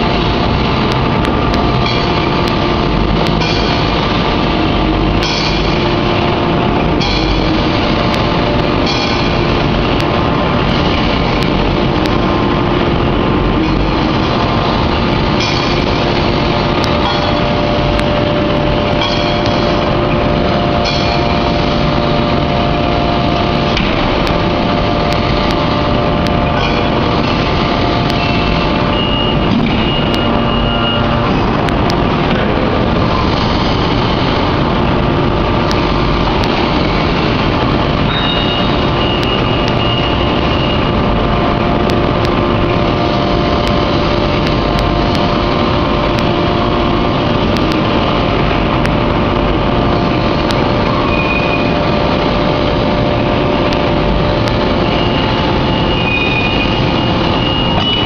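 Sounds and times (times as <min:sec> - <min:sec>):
high whines: 0:00.0 - 0:58.0
hydraulic unit droning: 0:00.0 - 0:58.0.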